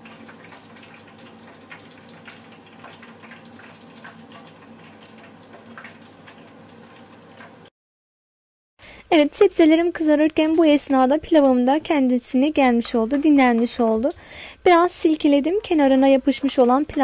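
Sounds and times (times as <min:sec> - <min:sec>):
oil sizzling and popping: 0:00.0 - 0:07.7, 0:09.1 - 0:17.0.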